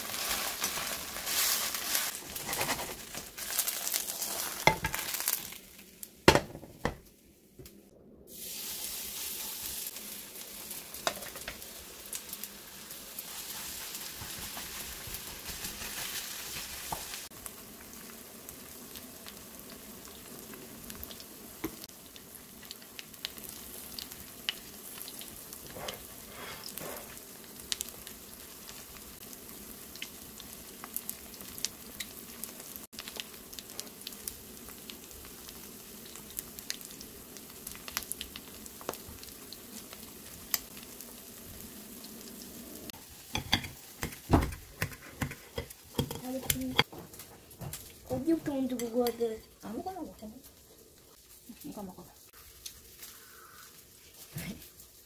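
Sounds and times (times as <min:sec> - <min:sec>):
batter sizzling and popping in oil: 0:00.0 - 0:55.0.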